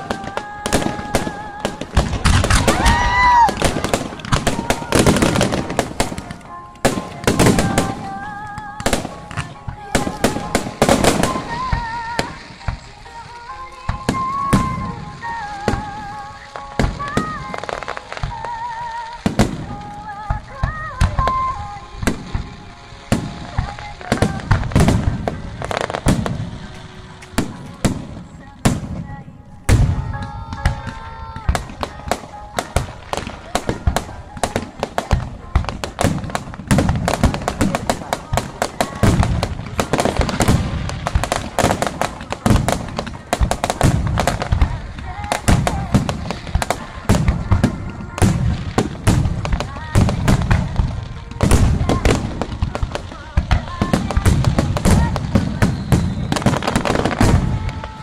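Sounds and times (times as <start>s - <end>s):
fireworks booming and crackling: 0.0s - 58.0s
sung theme song: 0.0s - 58.0s.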